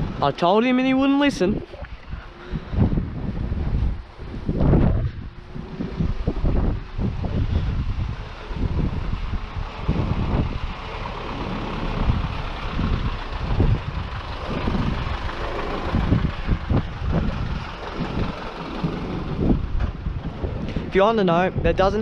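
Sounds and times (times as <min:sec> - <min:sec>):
wind buffeting microphone: 0:00.0 - 0:22.0
truck diesel engine passing: 0:02.0 - 0:20.9.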